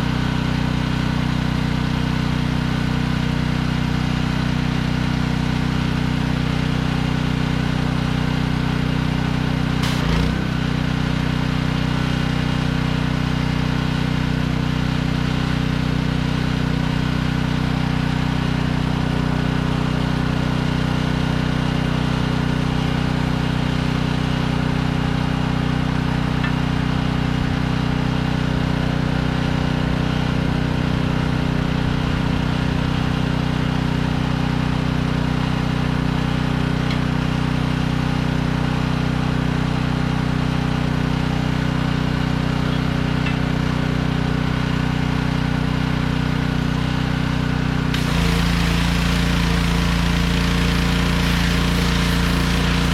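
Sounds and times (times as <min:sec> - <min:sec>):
pressure washer engine running: 0:00.0 - 0:52.9.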